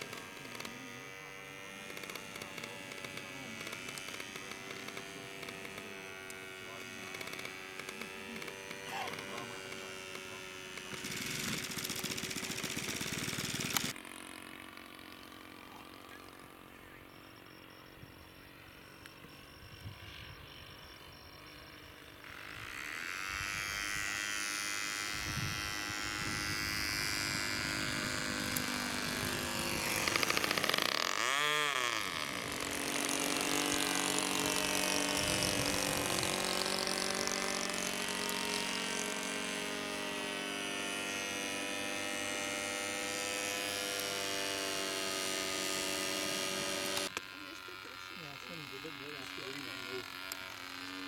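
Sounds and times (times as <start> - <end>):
model aircraft engine buzzing: 0.0 - 51.0.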